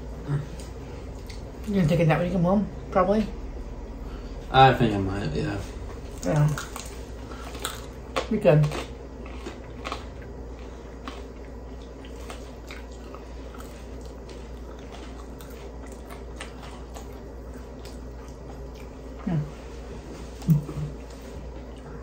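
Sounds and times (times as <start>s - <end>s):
people chewing pizza: 0.0s - 2.4s, 3.9s - 22.0s
steady low hum: 0.0s - 22.0s.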